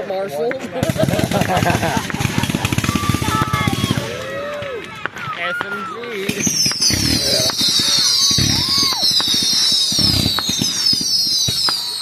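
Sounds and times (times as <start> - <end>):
fireworks crackling: 0.5 - 12.0
dull firework bursts: 0.8 - 12.0
firework shells whistling: 1.0 - 12.0.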